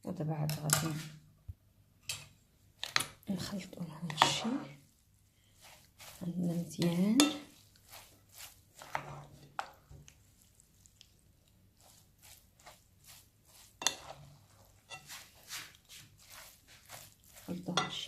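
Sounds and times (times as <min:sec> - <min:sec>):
hands squishing wet filling: 0:02.8 - 0:18.0.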